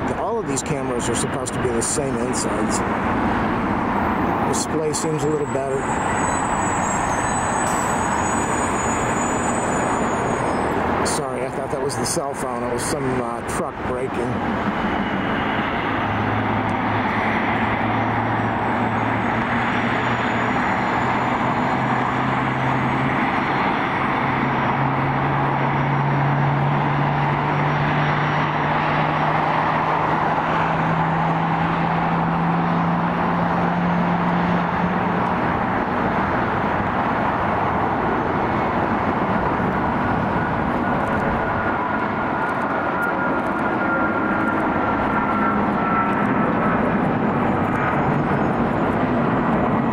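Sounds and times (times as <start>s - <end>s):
jet engines rushing: 0.0s - 49.9s.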